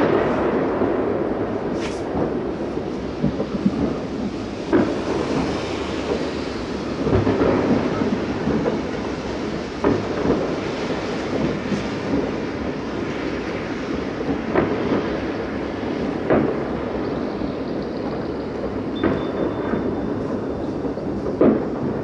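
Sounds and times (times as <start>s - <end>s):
distant fireworks rumble: 0.0s - 22.0s
sharp firework bangs: 0.0s - 22.0s.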